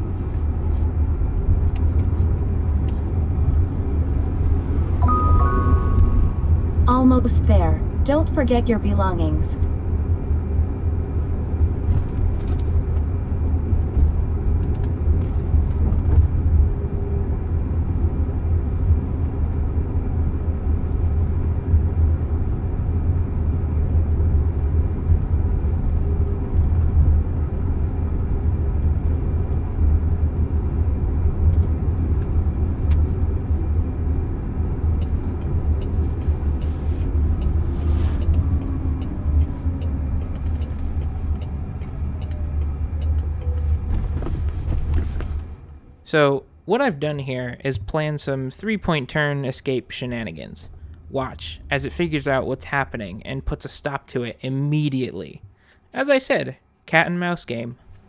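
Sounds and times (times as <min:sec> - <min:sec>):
road and tyre rumble: 0:00.0 - 0:46.7.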